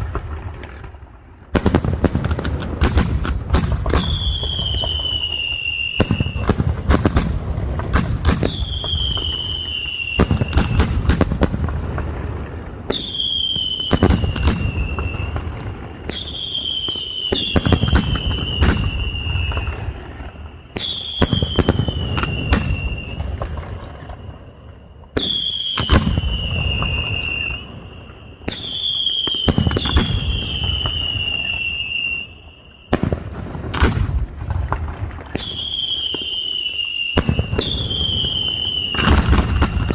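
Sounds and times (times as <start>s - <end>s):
firework bangs and crackling: 0.0s - 39.9s
firework whistles: 2.8s - 34.2s, 35.2s - 39.9s.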